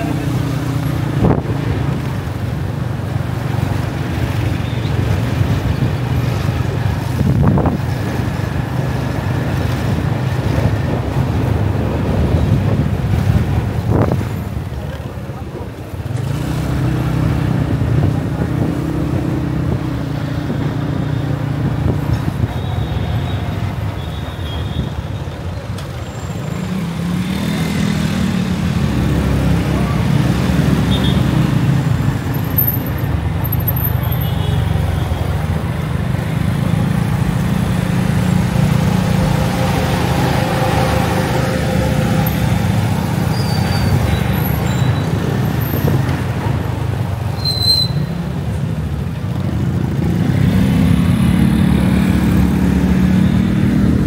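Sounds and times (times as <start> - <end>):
road traffic drone: 0.0 - 54.0.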